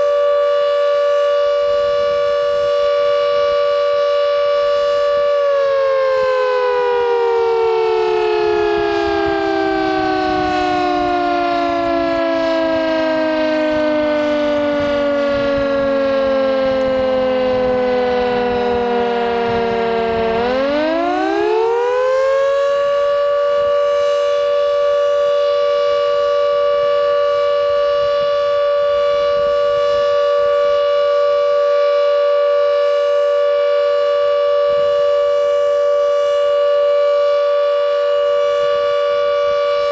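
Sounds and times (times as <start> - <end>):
two-note warning siren: 0.0 - 39.9.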